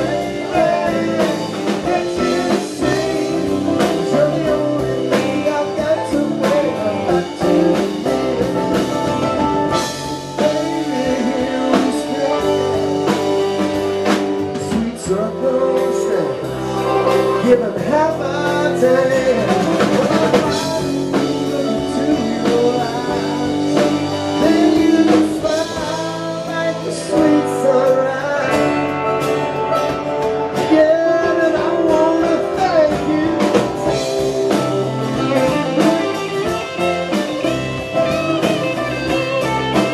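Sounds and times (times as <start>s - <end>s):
band playing blues rock: 0.0s - 39.9s.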